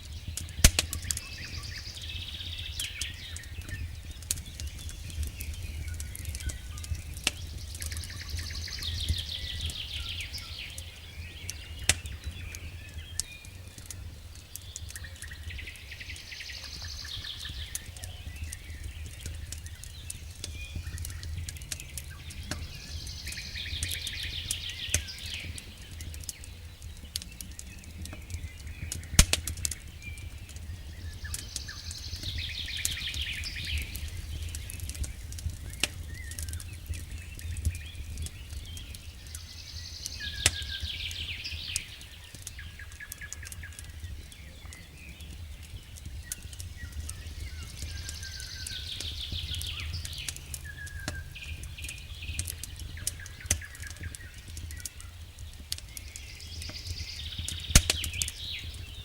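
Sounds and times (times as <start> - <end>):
bird chirping: 0.0 - 59.0
wood fire crackling: 0.0 - 59.0.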